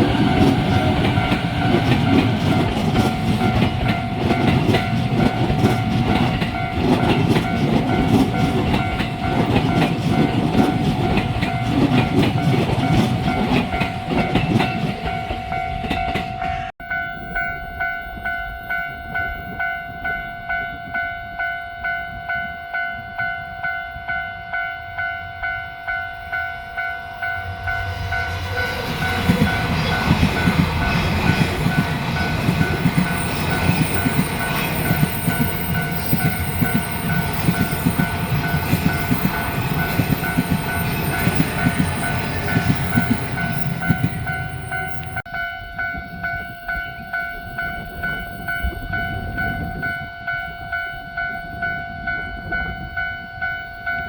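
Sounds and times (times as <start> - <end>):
crossing alarm bell clanging: 0.0 - 54.0
train rumbling: 0.0 - 54.0.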